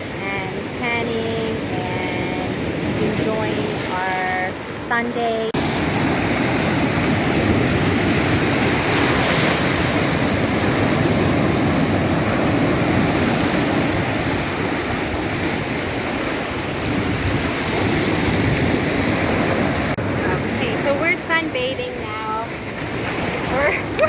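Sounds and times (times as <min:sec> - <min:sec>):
surf breaking on shore: 0:00.0 - 0:24.0
wind buffeting microphone: 0:00.0 - 0:24.0.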